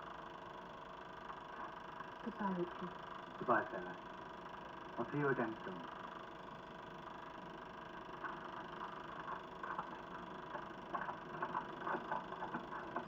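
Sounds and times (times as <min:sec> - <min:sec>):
film projector humming: 0:00.0 - 0:13.0.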